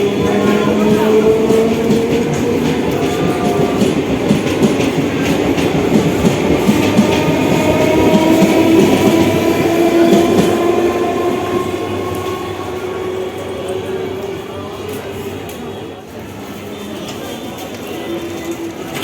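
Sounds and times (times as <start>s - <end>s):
train wheels clattering: 0.0s - 19.0s
train whine: 0.0s - 19.0s.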